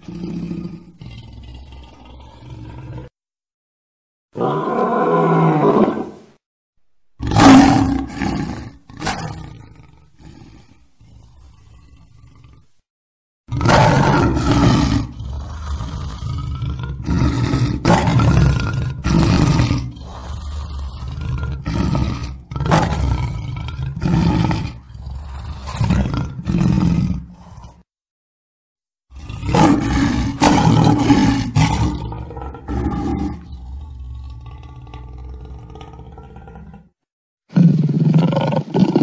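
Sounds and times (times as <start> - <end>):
lion roaring: 0.0 - 3.2, 4.4 - 6.2, 7.2 - 12.8, 13.5 - 27.8, 29.1 - 39.0.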